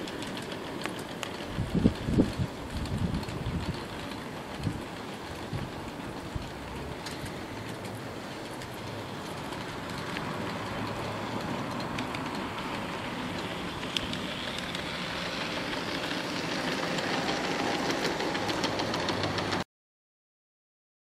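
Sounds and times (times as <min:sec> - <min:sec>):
light track clicks: 0:00.0 - 0:19.6
model train rolling rumble: 0:00.0 - 0:19.6.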